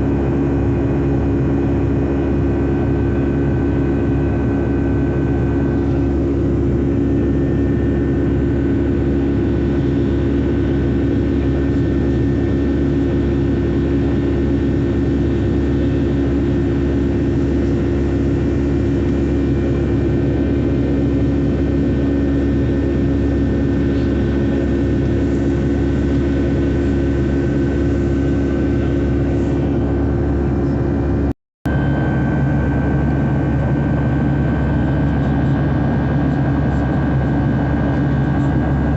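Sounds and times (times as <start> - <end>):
constant hum: 0.0 - 38.9
jet engines droning: 0.0 - 38.9.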